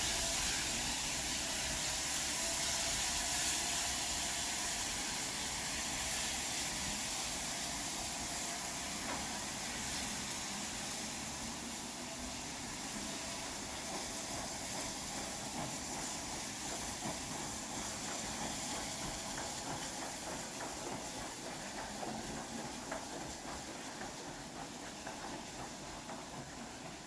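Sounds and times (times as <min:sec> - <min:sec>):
steam locomotive hissing steam: 0:00.0 - 0:27.0.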